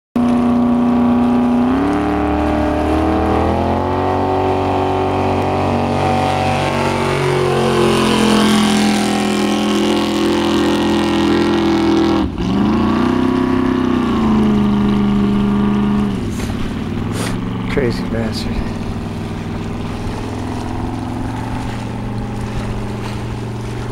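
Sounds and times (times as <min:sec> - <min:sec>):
speedboat engine running hard: 0:00.2 - 0:23.9.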